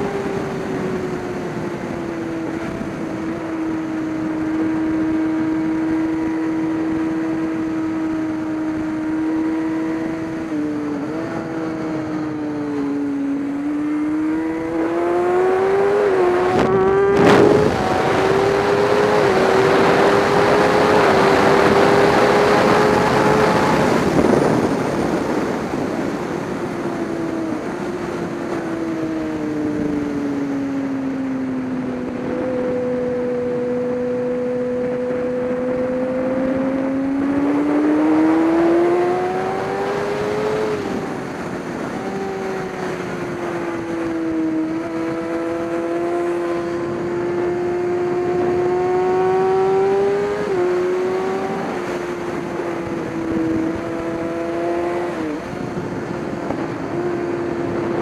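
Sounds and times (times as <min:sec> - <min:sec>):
motorcycle engine accelerating: 0:00.0 - 0:58.0
steady rushing noise: 0:00.0 - 0:58.0.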